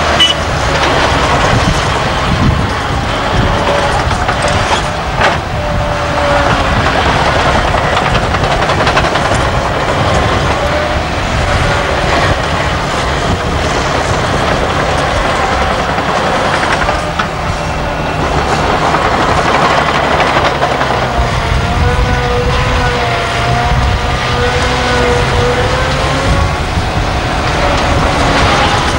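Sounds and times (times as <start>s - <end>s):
diesel engine working hard: 0.0s - 28.9s
steel tracks clanking: 0.0s - 28.9s.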